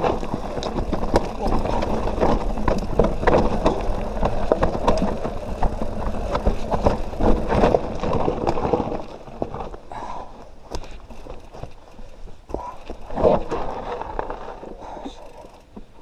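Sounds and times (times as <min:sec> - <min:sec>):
bike frame knocks and rattles: 0:00.0 - 0:09.9, 0:10.7 - 0:15.9
bike tyre noise: 0:00.0 - 0:16.0.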